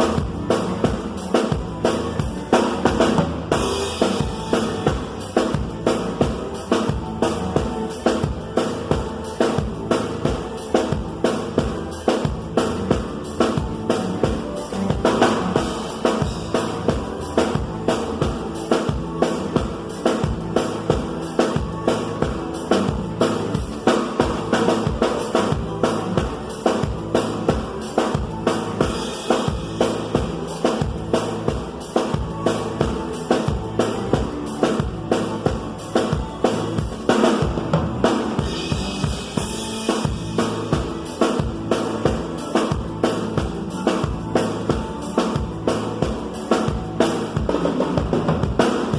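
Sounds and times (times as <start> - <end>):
bass line: 0.0 - 48.9
drum kit fast beat: 0.0 - 48.9
live band music: 0.0 - 48.9.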